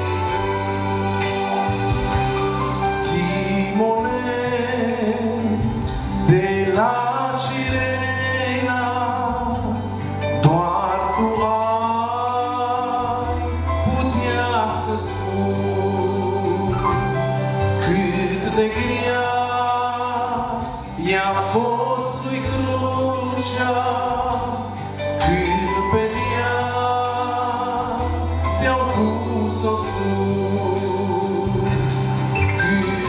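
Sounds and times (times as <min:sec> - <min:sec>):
sustained instrumental accompaniment: 0:00.0 - 0:33.0
man singing a hymn: 0:02.8 - 0:33.0.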